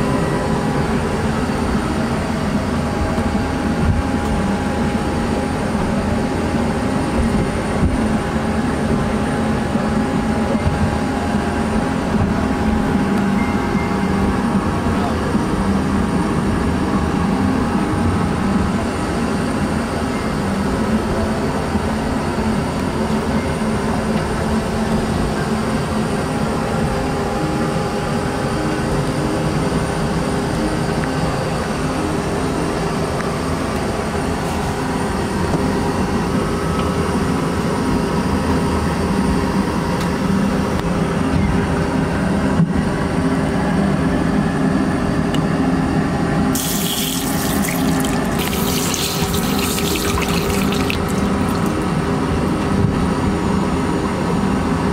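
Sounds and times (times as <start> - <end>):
airliner cabin drone: 0.0 - 54.9.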